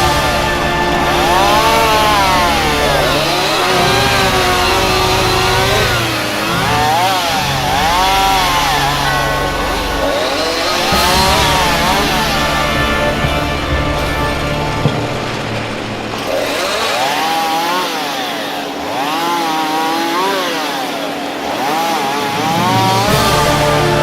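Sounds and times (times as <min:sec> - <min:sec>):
chainsaw cutting and revving: 0:00.0 - 0:24.0.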